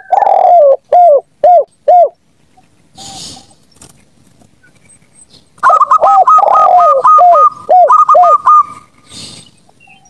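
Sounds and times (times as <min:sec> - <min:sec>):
doves cooing: 0:00.0 - 0:10.0.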